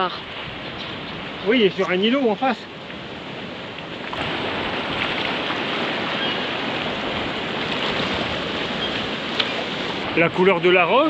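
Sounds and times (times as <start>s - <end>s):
sea waves washing over rocks: 0.0s - 11.0s.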